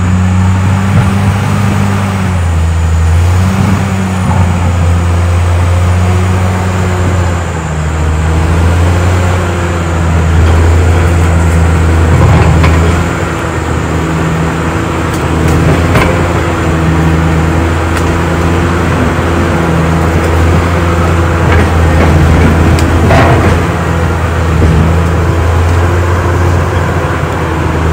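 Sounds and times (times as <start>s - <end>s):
bulldozer diesel engine running: 0.0s - 27.9s.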